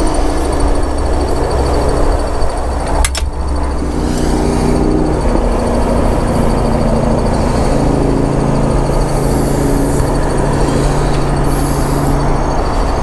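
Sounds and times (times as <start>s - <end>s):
loud motor drone: 0.0s - 13.0s
rushing noise: 0.0s - 13.0s.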